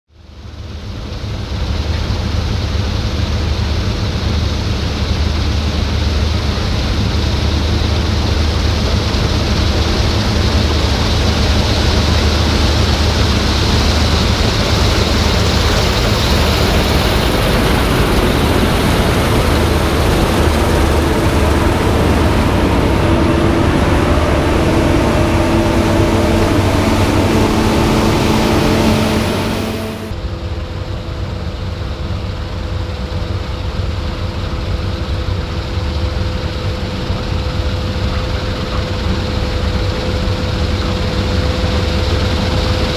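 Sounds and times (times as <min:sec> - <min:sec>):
combine harvester running: 0:00.2 - 0:42.9.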